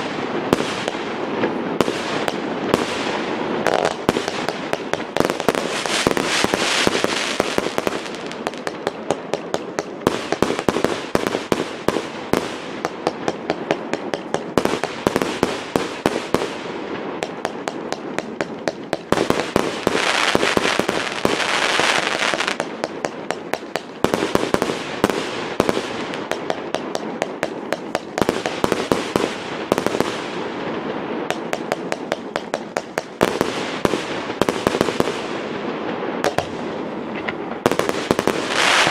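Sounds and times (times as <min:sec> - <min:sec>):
rushing hissing crackle: 0:00.0 - 0:38.9.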